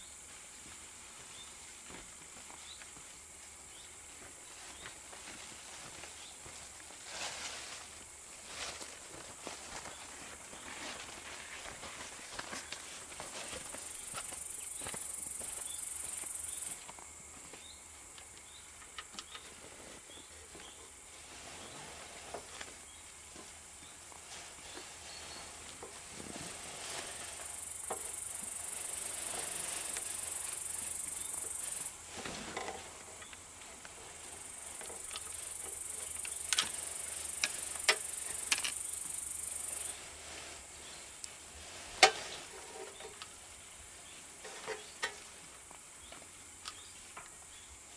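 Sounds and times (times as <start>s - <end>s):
steady high hiss: 0.0s - 47.9s.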